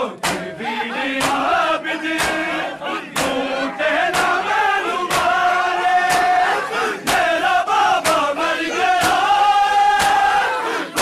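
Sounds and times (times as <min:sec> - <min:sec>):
crowd chanting in unison: 0:00.0 - 0:11.0.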